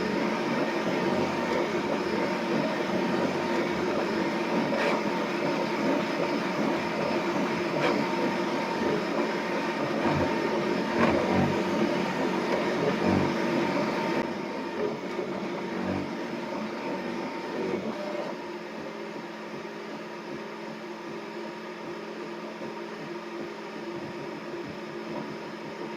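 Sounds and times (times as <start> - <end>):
printer mechanical hum: 0.0 - 25.9.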